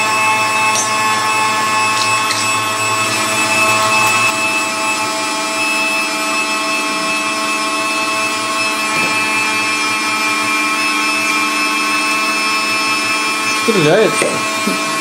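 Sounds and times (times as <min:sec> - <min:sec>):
electric meat grinder whining: 0:00.0 - 0:15.0.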